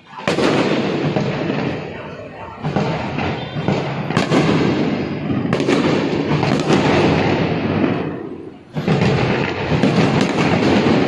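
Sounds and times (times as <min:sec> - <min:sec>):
fireworks banging and crackling: 0:00.0 - 0:11.0
sharp firework cracks: 0:00.0 - 0:11.0.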